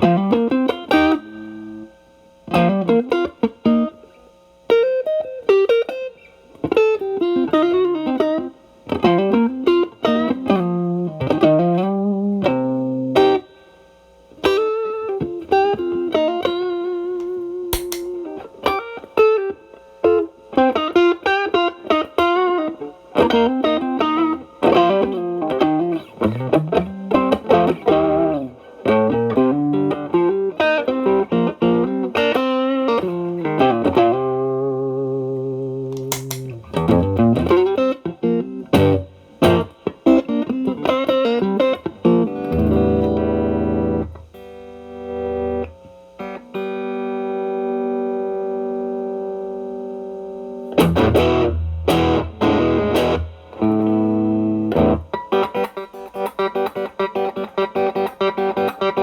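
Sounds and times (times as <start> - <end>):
distorted electric guitar: 0.0 - 13.7, 14.3 - 59.0.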